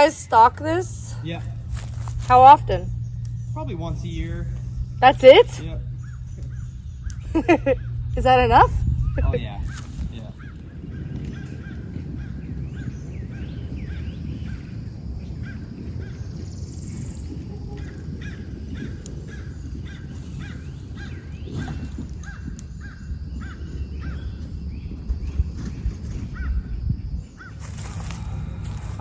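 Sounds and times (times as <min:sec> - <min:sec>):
birds calling: 0:00.0 - 0:29.0
steady low rumble: 0:00.0 - 0:29.0.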